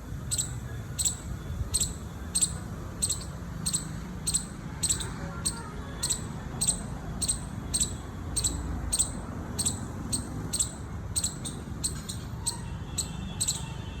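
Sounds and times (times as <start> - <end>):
squirrel chirping: 0.1 - 13.8.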